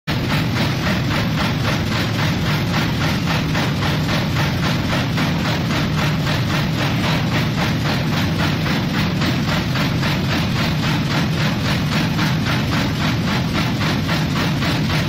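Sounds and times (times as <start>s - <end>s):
fast machine chopping: 0.1s - 15.0s
motor hum: 0.1s - 15.0s.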